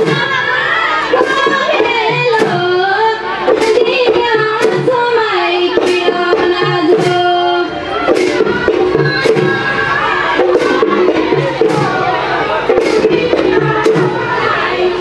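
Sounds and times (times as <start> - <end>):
drum beating: 0.0 - 15.0
high voices singing together: 0.0 - 15.0.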